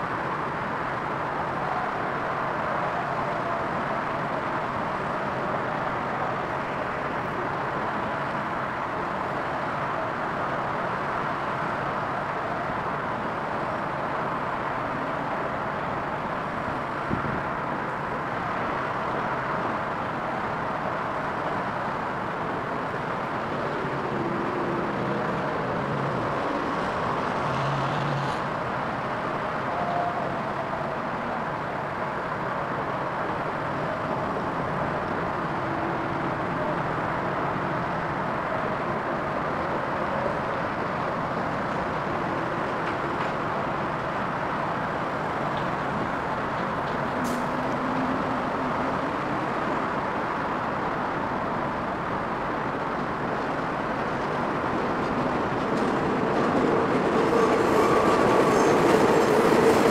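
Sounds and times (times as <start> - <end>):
passing vehicle engines humming: 0.0 - 59.9
road traffic hiss: 0.0 - 59.9.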